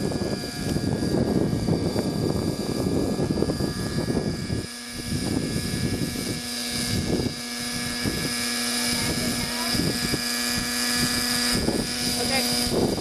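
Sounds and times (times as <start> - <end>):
model helicopter whining: 0.0 - 13.0.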